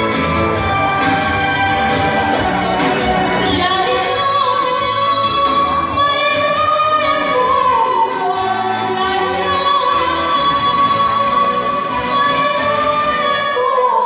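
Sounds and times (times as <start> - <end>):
instrumental accompaniment: 0.0 - 13.6
person singing with vibrato: 0.0 - 14.0.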